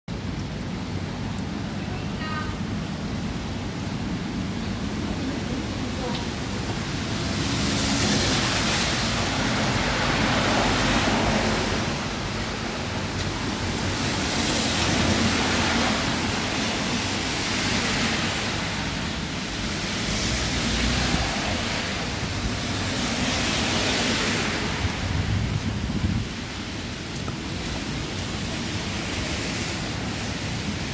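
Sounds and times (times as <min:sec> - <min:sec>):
torrential rain pouring: 0:00.1 - 0:30.9
wind gusts: 0:00.1 - 0:30.9.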